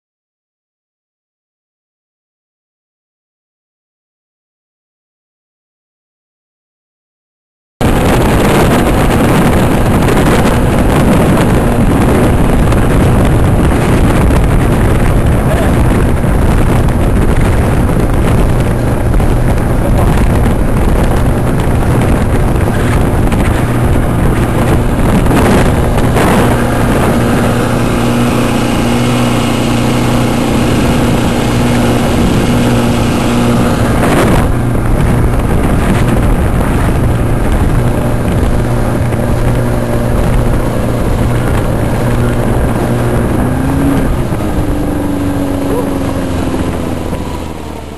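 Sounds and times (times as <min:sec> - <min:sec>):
outboard motor running: 0:07.8 - 0:47.9
water rushing along hull: 0:07.8 - 0:47.9
wind on microphone: 0:07.8 - 0:47.9.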